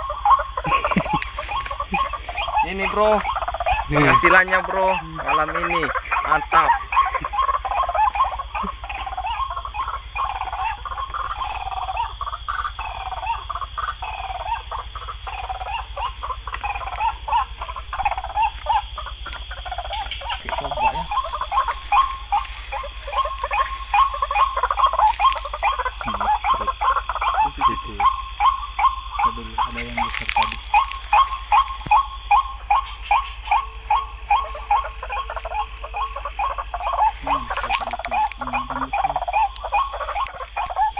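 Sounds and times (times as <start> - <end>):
frogs croaking in chorus: 0.0 - 40.9
steady high-pitched buzz: 0.0 - 40.9.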